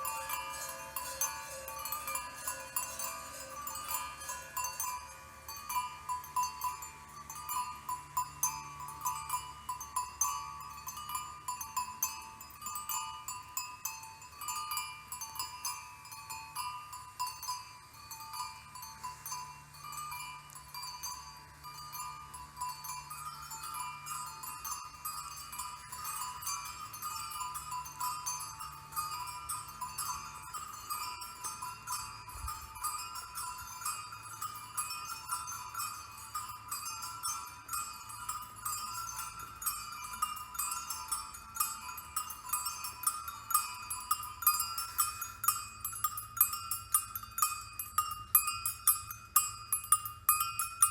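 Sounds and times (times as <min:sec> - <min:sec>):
metallic bell-like tinkling: 0:00.0 - 0:50.9.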